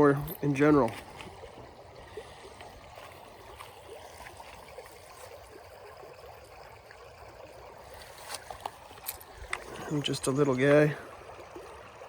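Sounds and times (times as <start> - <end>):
creek water running: 0.0 - 12.0
small water trickles: 0.0 - 12.0.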